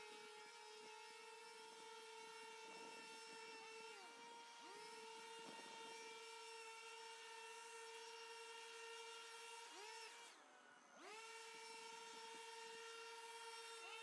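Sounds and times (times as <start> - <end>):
leaf blower running: 0.0 - 14.0.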